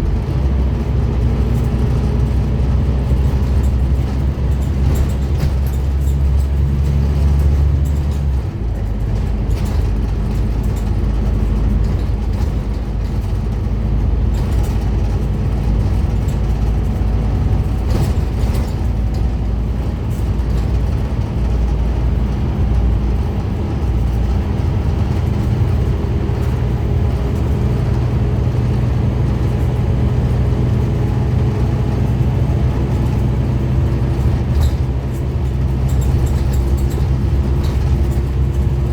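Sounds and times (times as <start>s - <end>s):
bus engine drone: 0.0s - 38.9s.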